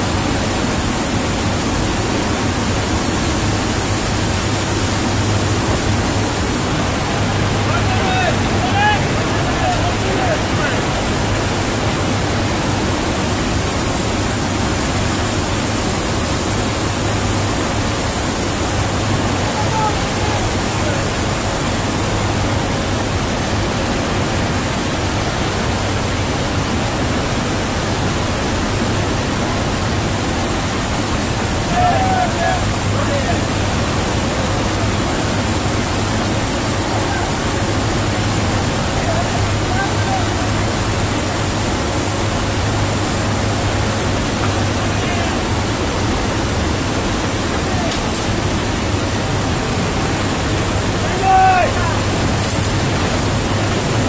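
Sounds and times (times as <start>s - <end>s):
rushing wind: 0.0s - 54.0s
steady low drone: 0.0s - 54.0s
turboprop engine noise: 0.0s - 54.0s.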